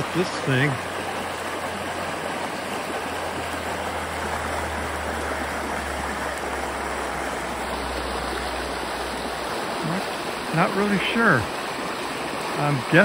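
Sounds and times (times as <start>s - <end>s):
creek water rushing over rocks: 0.0s - 13.0s.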